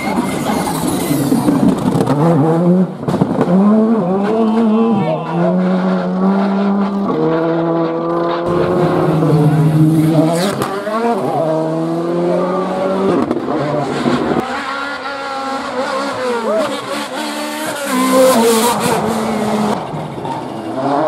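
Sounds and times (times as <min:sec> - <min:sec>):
rally car engine running hard: 0:00.0 - 0:21.0.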